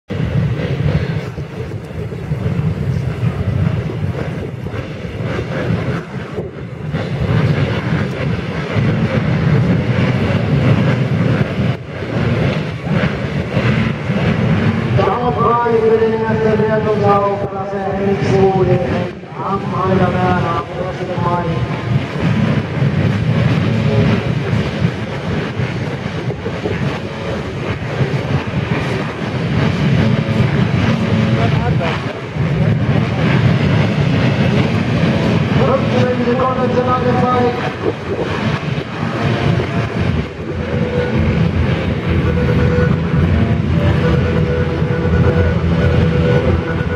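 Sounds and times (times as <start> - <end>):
many motocross engines rumbling: 0.1 - 46.9.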